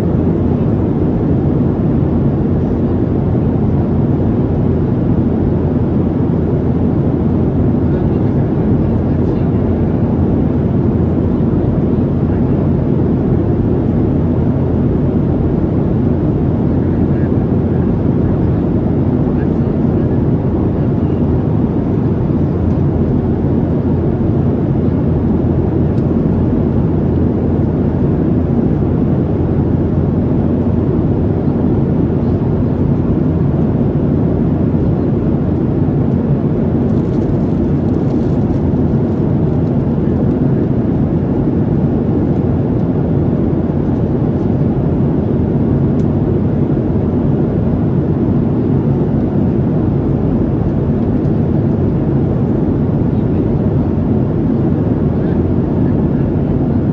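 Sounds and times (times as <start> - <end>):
airplane cabin engine rumble: 0.0 - 56.9.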